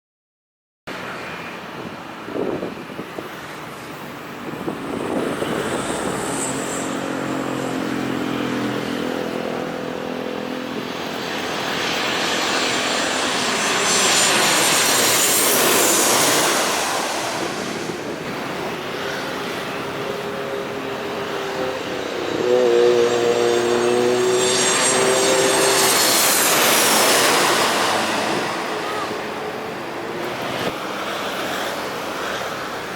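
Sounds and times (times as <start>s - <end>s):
jet engine noise: 0.9s - 32.9s.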